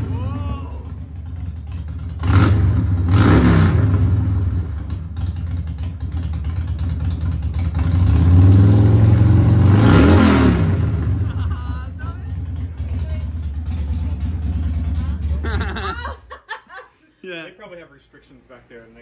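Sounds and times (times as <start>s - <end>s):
motorcycle engine idling and revving: 0.0s - 15.9s.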